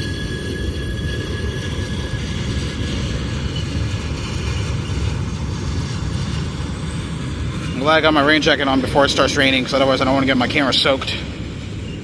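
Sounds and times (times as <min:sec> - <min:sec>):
faint wheel squeal: 0:00.0 - 0:12.0
train wheels rumbling on rails: 0:00.0 - 0:12.0.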